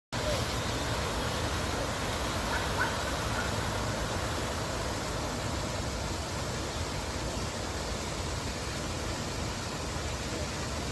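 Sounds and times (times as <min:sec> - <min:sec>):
water falling down fountain: 0:00.2 - 0:10.9.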